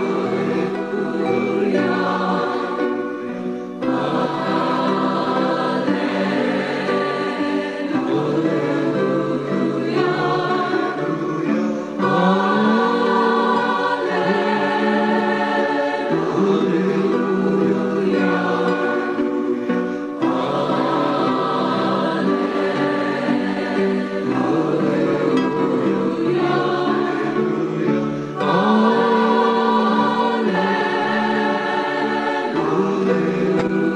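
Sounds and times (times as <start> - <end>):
choir singing held chords: 0.0 - 33.9.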